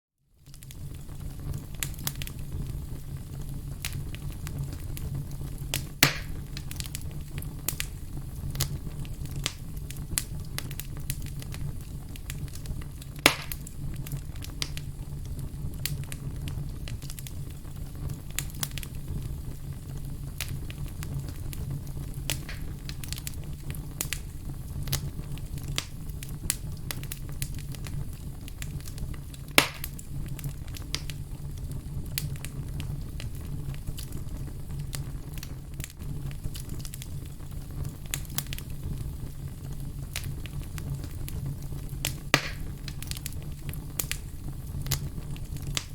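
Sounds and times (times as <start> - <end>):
wood fire crackling: 0.3 - 45.9.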